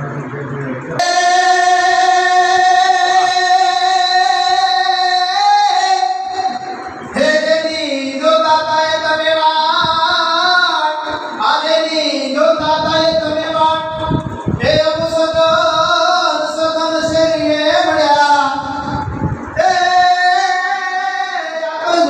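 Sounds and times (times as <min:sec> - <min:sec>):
person singing into a microphone: 0:01.0 - 0:22.0.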